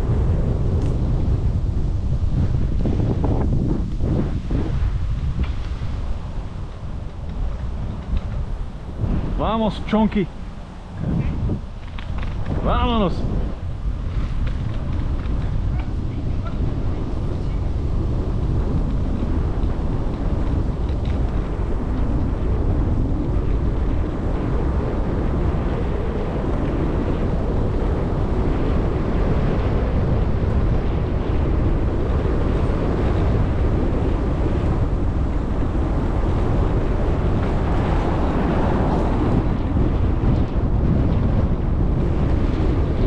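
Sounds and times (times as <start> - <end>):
wind rumble on microphone: 0.0 - 43.0.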